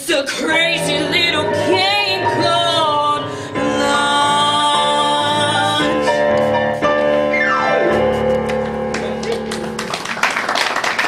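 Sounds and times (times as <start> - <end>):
keyboard sustained chords: 0.5 - 10.3.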